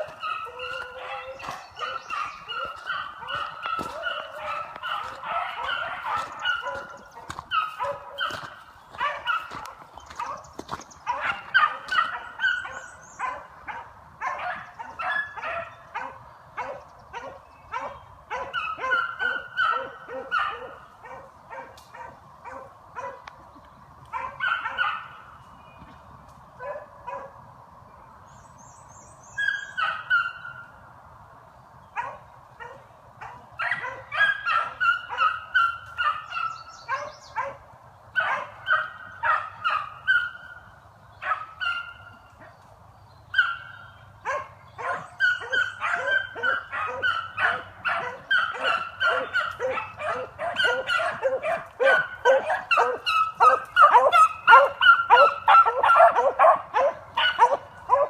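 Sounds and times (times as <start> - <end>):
hounds barking and yelping: 0.0 - 23.4, 24.0 - 25.5, 26.6 - 27.4, 29.3 - 30.8, 31.9 - 42.7, 43.3 - 58.0.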